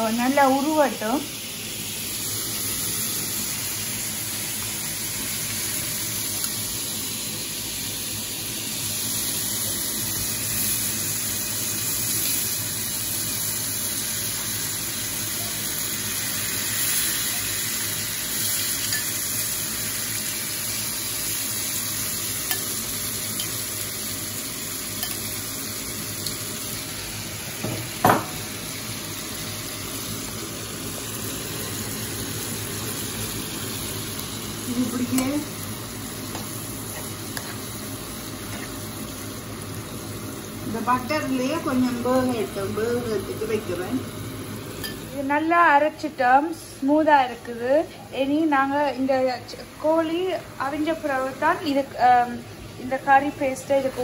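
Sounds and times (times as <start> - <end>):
chicken frying: 0.0 - 47.6, 48.3 - 54.0
butter sizzling in a frying pan: 0.0 - 54.0.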